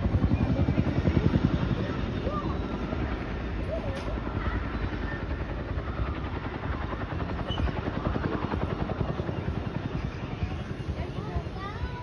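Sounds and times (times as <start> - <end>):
helicopter rotor blades beating: 0.0 - 12.0.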